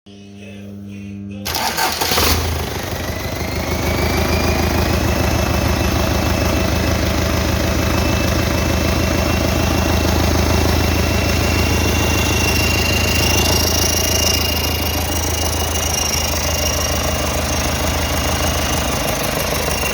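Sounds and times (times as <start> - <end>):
diesel engine idling: 1.5 - 19.9.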